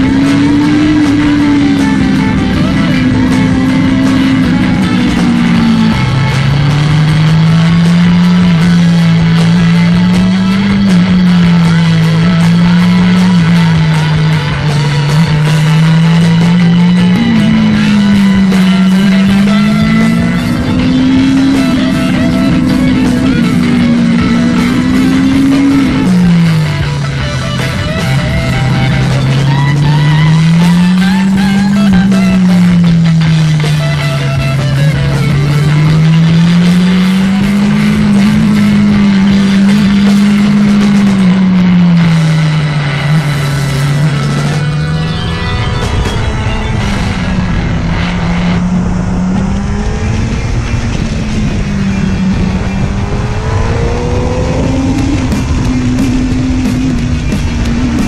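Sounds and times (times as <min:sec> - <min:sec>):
motorcycle engine: 0:00.0 - 0:58.0
rock music with guitar: 0:00.0 - 0:58.0.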